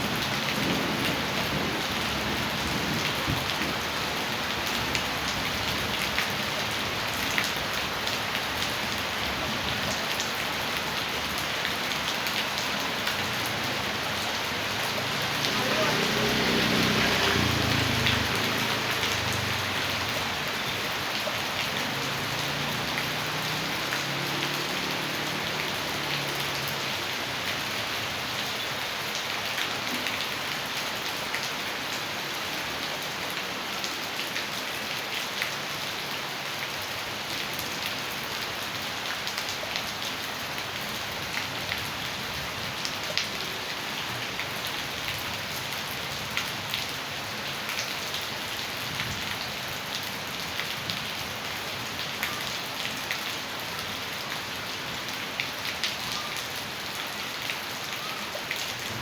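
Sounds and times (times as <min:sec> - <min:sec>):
rain falling: 0:00.0 - 0:59.0
raindrops hitting surfaces: 0:00.0 - 0:59.0.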